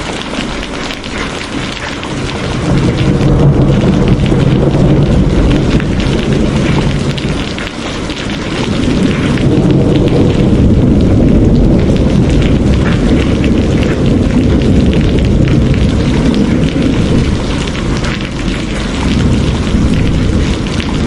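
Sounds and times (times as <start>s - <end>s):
heavy rain pouring: 0.0s - 21.0s
deep steady rumble: 1.7s - 21.0s.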